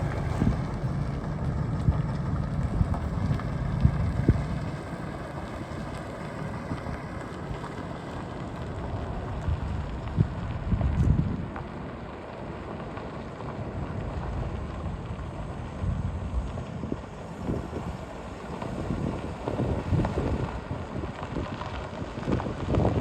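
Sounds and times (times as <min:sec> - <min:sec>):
wind buffeting microphone: 0:00.0 - 0:11.7, 0:14.0 - 0:23.0.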